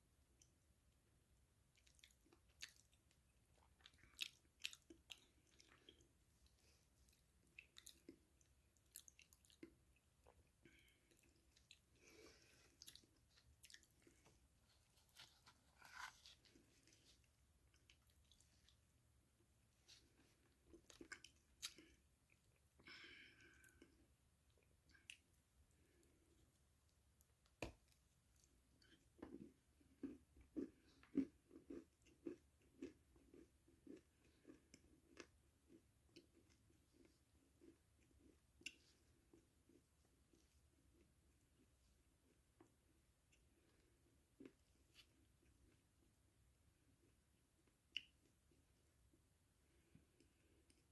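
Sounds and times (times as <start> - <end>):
chewing crunchy food: 1.7 - 18.8, 19.9 - 26.1, 28.4 - 45.8.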